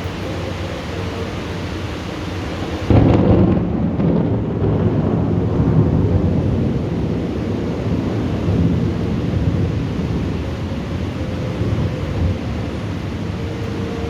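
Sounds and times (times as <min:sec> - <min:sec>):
faint rain hiss: 0:00.0 - 0:14.0
thunder rumbling: 0:00.0 - 0:14.0.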